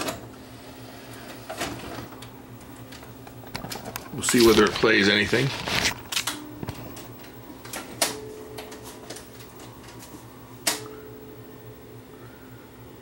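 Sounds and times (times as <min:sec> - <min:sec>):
faint motor hum: 0:00.0 - 0:13.0.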